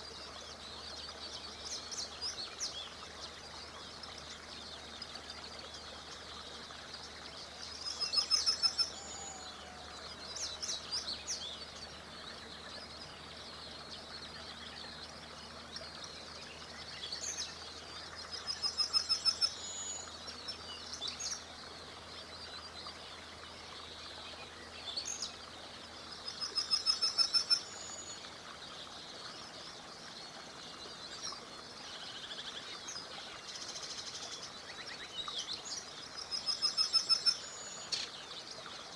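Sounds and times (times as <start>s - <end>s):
small river rushing: 0.0s - 38.9s
songbird singing: 0.0s - 38.9s.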